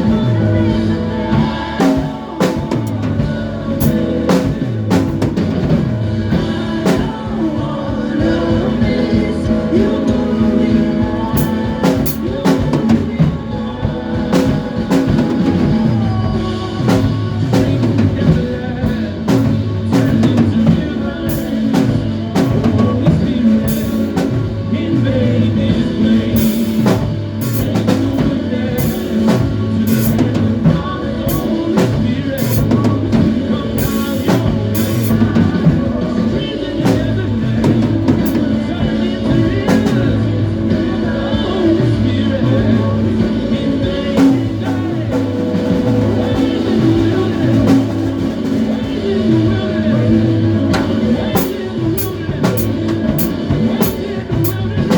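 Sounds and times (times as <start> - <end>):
drum kit beat: 0.0 - 54.9
gospel band playing: 0.0 - 54.9.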